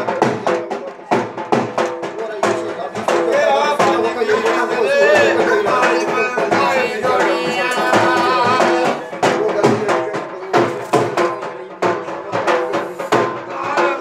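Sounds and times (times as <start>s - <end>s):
regular drum strokes: 0.0s - 14.0s.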